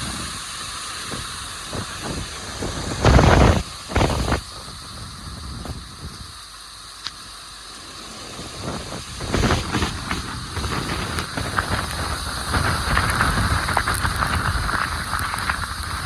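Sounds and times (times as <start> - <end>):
strong wind with rain: 0.0 - 16.0.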